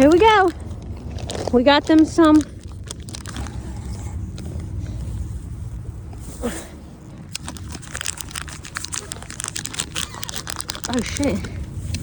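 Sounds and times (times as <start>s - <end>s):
snack bag crinkling: 0.0s - 5.0s, 7.1s - 12.0s
low rumble: 0.0s - 12.0s.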